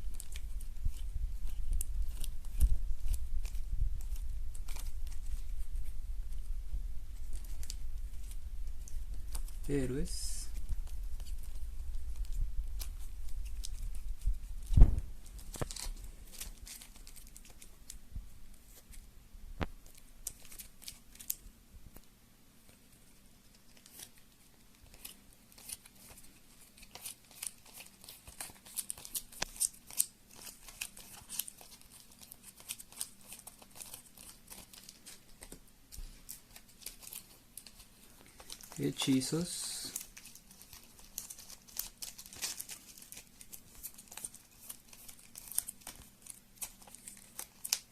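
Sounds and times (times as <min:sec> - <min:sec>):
plastic wrap crinkling and tearing: 0:00.0 - 0:06.5, 0:07.2 - 0:18.0, 0:19.8 - 0:21.4, 0:23.5 - 0:47.9.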